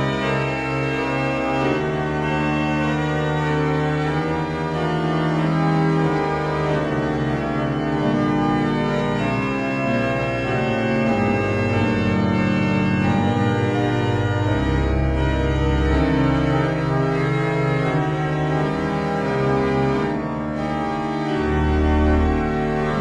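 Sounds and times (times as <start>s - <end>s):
organ chords: 0.0s - 23.0s.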